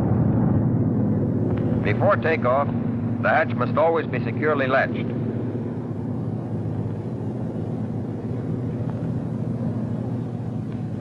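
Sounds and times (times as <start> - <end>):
aircraft engines droning: 0.0 - 11.0.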